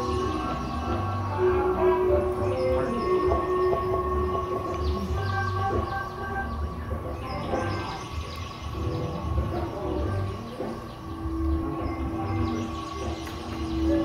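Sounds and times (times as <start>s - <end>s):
experimental electronic music: 0.0s - 14.0s.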